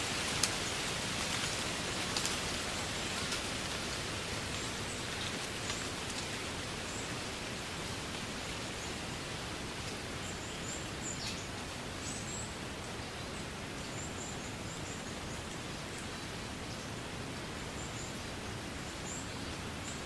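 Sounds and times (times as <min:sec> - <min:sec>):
wind rustling through reeds: 0:00.0 - 0:20.0.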